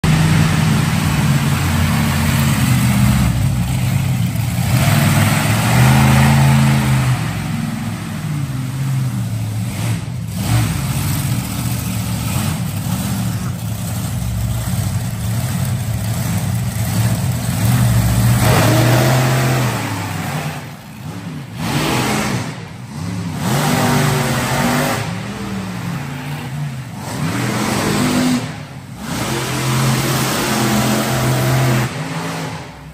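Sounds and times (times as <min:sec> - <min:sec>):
truck engines revving: 0:00.0 - 0:32.9.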